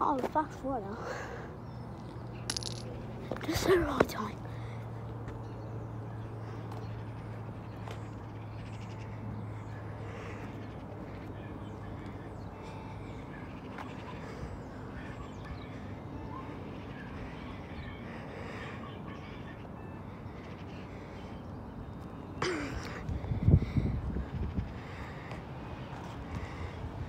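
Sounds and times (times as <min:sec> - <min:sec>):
birds chirping: 0:00.0 - 0:27.0
street background noise: 0:00.0 - 0:27.0.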